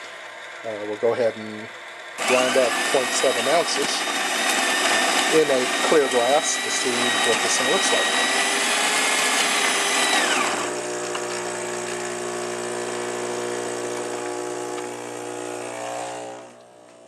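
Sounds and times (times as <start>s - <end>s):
coffee grinder whine: 0.0s - 17.0s
espresso machine pump humming: 2.2s - 17.0s.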